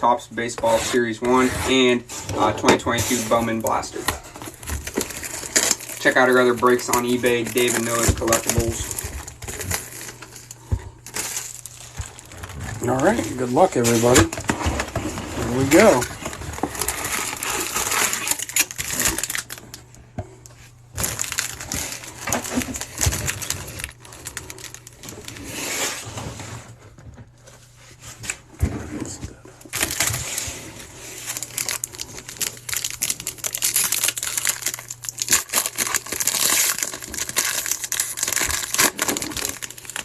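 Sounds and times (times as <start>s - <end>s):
cards and packaging rustling: 0.1s - 19.9s, 20.5s - 26.2s, 27.4s - 40.0s
foil wrappers tearing and crinkling: 2.4s - 19.8s, 21.0s - 26.2s, 29.7s - 40.0s.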